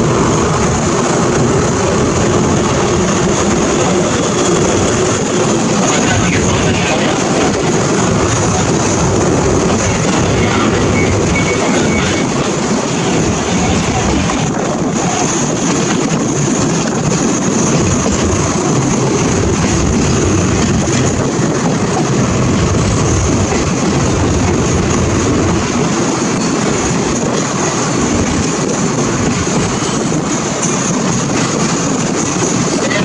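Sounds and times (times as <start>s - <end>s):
train wheels rumbling on track: 0.0s - 33.0s.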